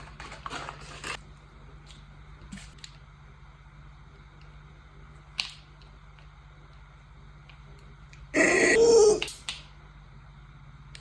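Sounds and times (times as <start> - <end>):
steady low hum: 1.2 - 11.0.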